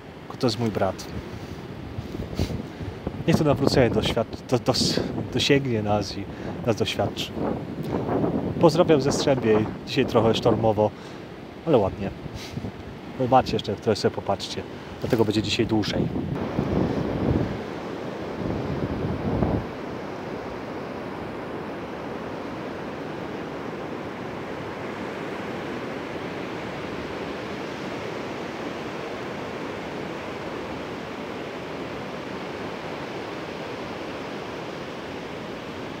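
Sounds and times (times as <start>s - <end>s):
stormy surf breaking on beach: 0.0s - 36.0s.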